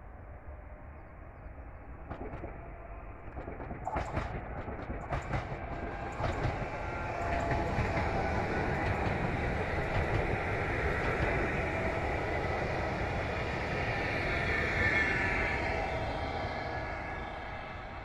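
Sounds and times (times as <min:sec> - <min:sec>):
train wheels rumbling on rail: 0:02.1 - 0:18.0.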